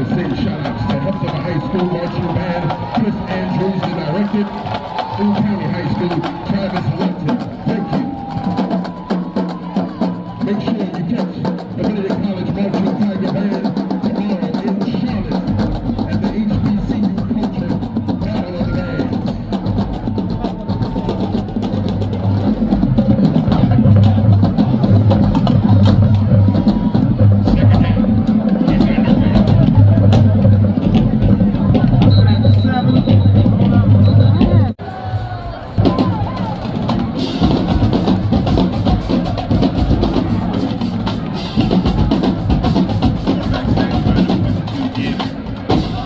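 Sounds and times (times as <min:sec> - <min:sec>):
drum strikes: 0:00.0 - 0:46.0
marching band playing: 0:00.0 - 0:46.0.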